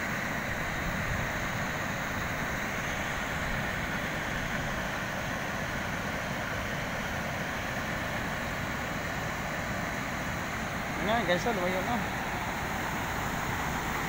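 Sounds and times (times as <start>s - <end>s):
water rushing over a weir: 0.0s - 14.0s.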